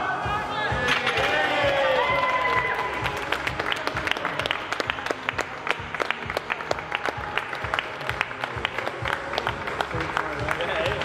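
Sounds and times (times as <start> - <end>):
background music: 0.0 - 11.0
crowd applauding: 1.2 - 11.0.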